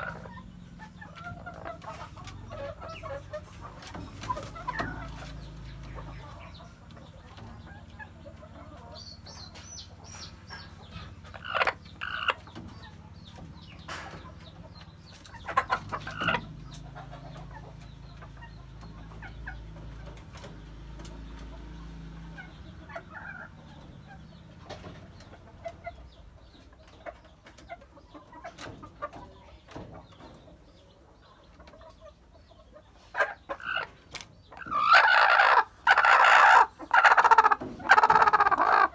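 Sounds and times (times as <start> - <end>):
hen clucking: 0.0 - 38.9.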